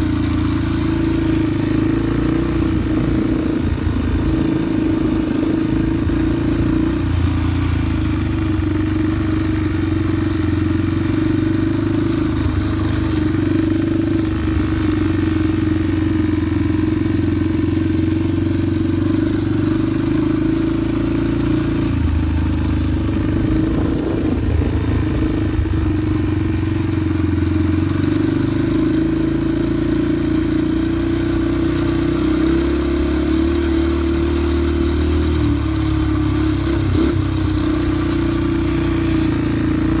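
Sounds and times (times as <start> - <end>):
dirt bike engines running: 0.0 - 40.0.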